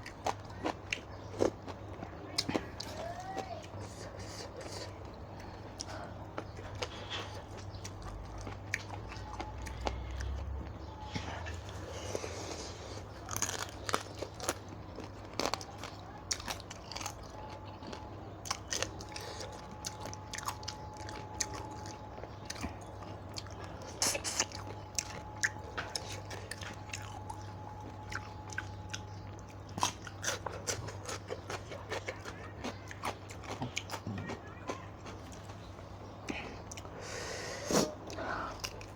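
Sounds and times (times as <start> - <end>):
person chewing and crunching: 0.0 - 38.9.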